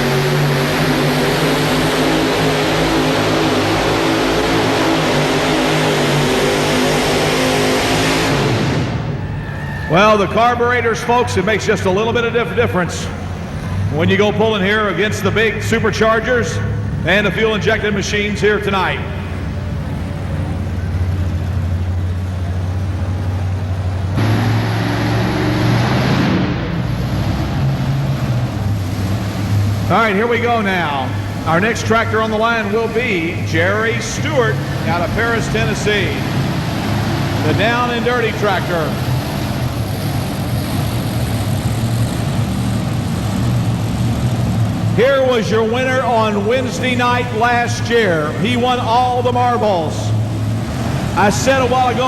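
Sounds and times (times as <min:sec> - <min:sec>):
tractor engines droning under load: 0:00.0 - 0:52.0.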